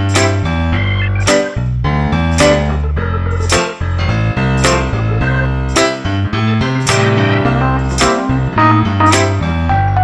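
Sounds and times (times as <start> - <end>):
keyboard notes: 0.0 - 10.0
steady bass line: 0.0 - 10.0.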